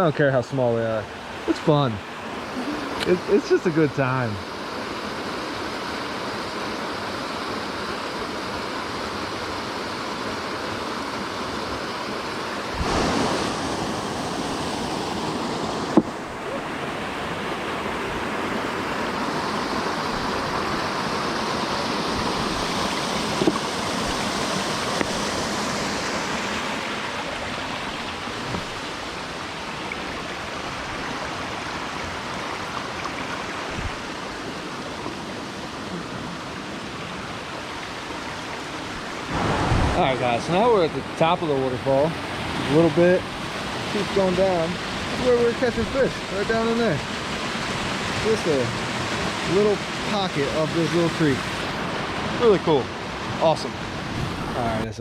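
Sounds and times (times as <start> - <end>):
water rushing over waterfall: 0.0 - 55.0.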